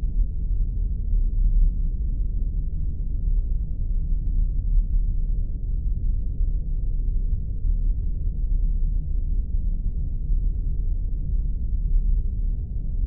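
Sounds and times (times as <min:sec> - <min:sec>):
deep spaceship rumble: 0:00.0 - 0:13.0.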